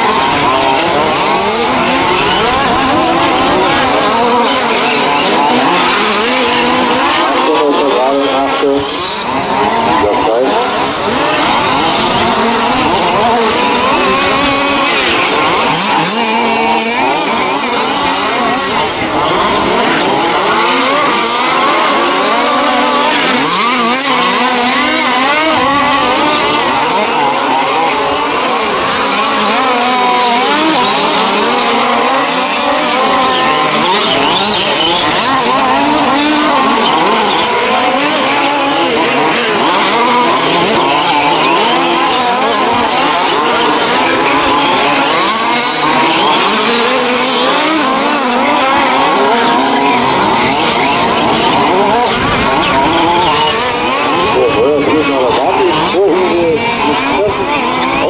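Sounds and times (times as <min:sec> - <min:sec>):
small petrol engines revving: 0:00.0 - 0:58.0.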